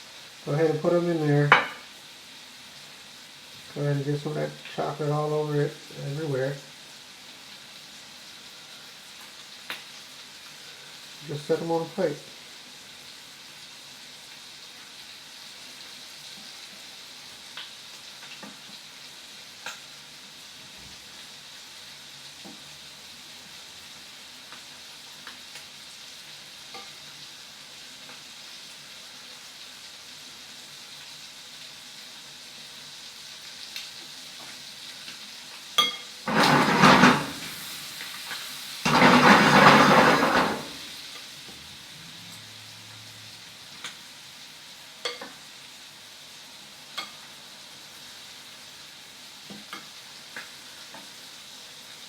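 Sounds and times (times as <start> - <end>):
food sizzling in a pan: 0.0 - 52.0.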